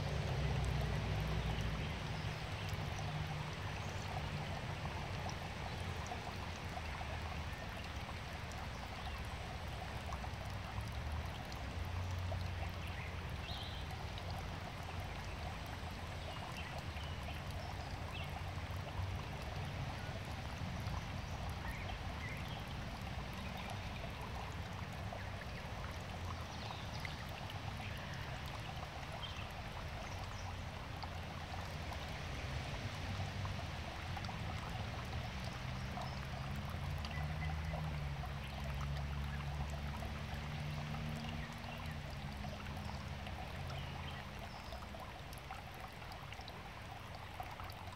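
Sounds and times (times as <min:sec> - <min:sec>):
water trickling and splashing: 0:00.0 - 0:47.9.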